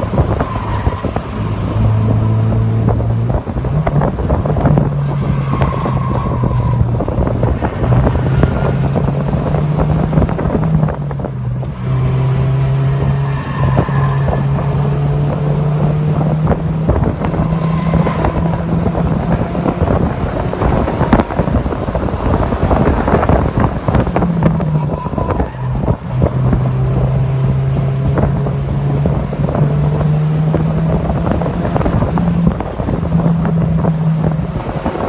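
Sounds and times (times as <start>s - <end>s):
car engine running hard: 0.0s - 35.0s
wind buffeting microphone: 0.0s - 35.0s.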